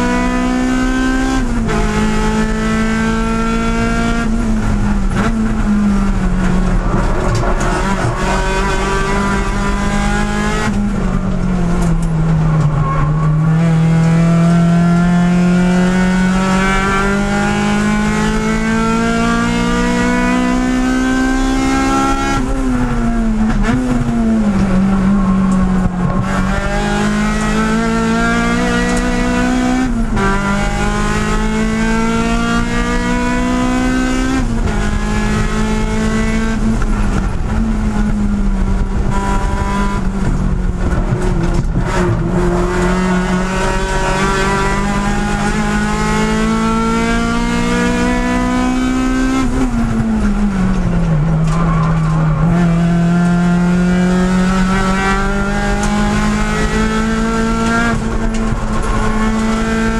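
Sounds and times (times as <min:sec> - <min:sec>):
race car engine revving: 0:00.0 - 0:59.9
gear change: 0:01.3 - 0:20.8, 0:21.5 - 0:59.9.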